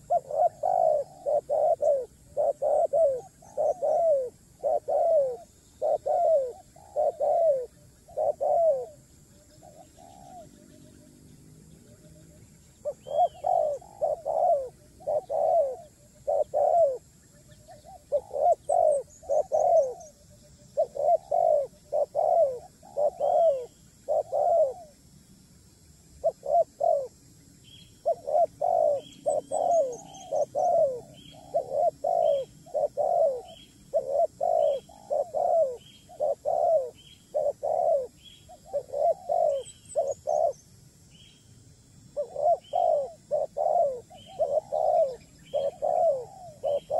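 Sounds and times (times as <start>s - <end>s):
bird cooing: 0.0s - 11.1s, 11.7s - 25.1s, 26.2s - 40.6s, 42.1s - 46.9s.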